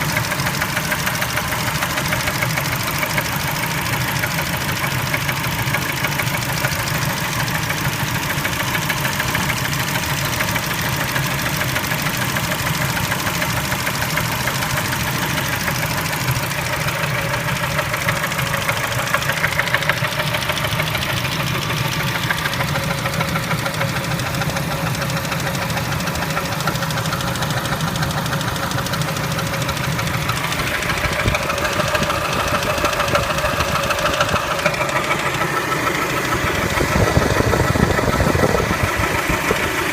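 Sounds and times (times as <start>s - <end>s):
car engine knocking: 0.0s - 39.9s.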